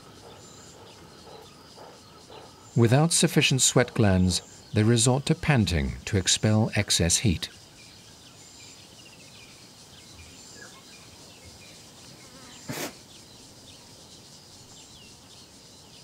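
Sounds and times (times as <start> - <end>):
insects buzzing and chirping: 0.0 - 16.0.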